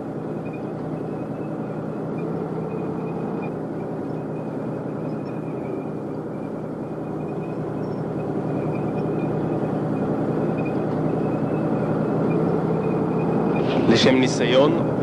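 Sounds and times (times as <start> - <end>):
faint high whine: 0.0 - 15.0
tank engine running: 0.0 - 15.0.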